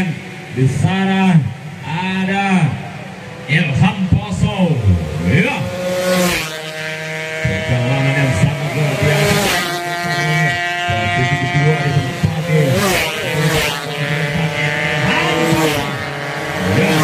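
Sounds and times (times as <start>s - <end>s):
motorcycles passing at high revs: 0.0s - 17.0s.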